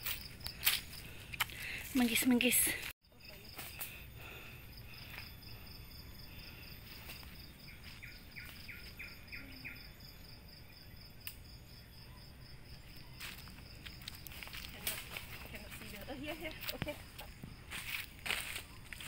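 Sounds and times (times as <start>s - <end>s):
insect chirring: 3.1s - 19.0s.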